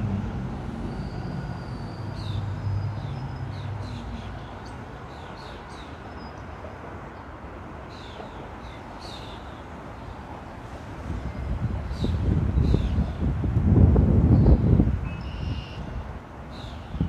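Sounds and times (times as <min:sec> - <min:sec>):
train rumbling overhead: 0:00.0 - 0:17.0.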